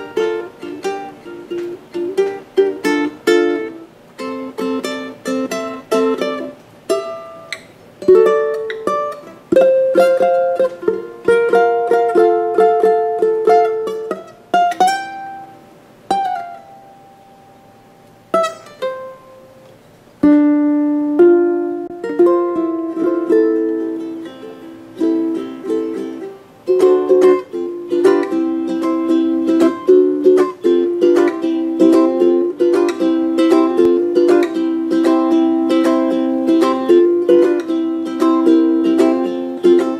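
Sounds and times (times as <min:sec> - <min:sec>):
ukulele playing: 0:00.0 - 0:39.9.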